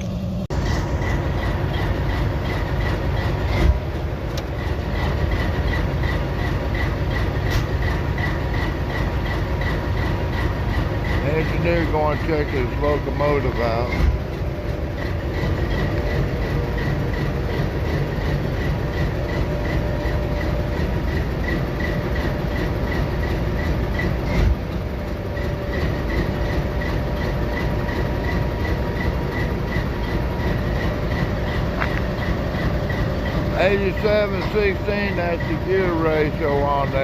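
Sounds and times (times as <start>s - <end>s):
diesel locomotives rumbling: 0.0s - 37.0s.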